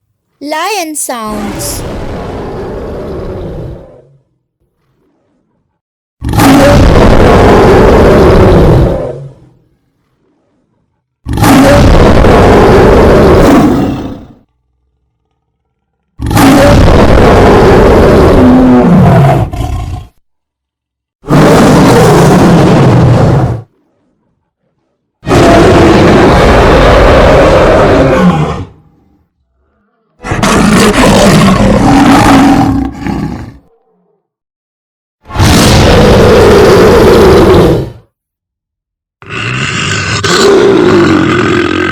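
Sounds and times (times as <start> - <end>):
lion roaring: 1.4 - 20.2, 21.2 - 34.4, 35.3 - 38.1, 39.2 - 41.9.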